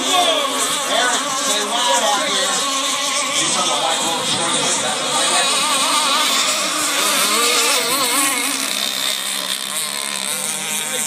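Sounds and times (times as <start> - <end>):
racing boat engine high pitch: 0.0 - 11.0.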